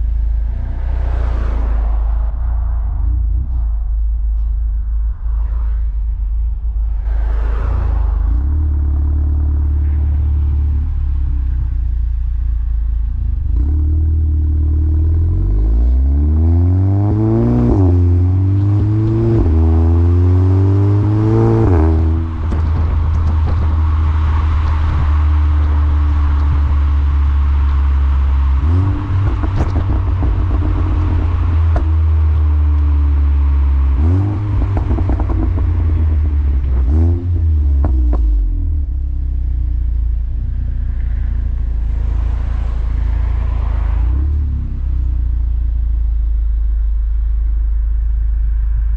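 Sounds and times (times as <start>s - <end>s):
car engine accelerating: 0.0s - 48.9s
exhaust crackles: 0.0s - 48.9s.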